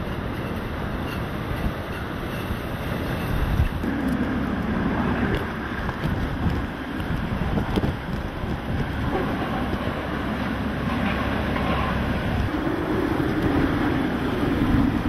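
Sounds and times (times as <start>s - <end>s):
hurricane wind roaring: 0.0s - 15.0s
wind-driven rain hissing: 0.0s - 15.0s.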